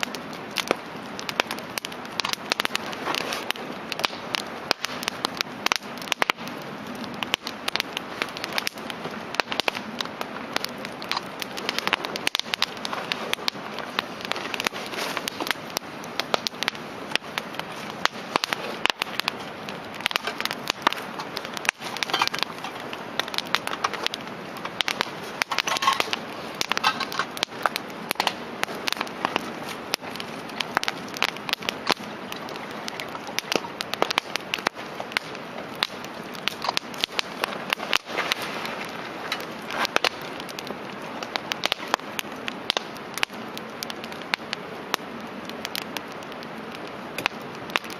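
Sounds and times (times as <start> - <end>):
campfire crackling and popping: 0.0 - 47.9
fire hissing: 0.0 - 47.9.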